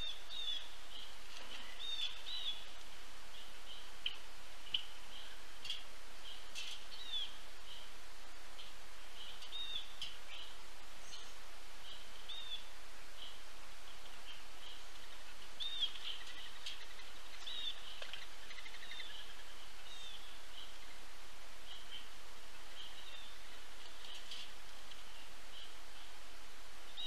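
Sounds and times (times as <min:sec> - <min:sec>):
background hiss: 0:00.0 - 0:27.0
birds chirping: 0:00.0 - 0:27.0.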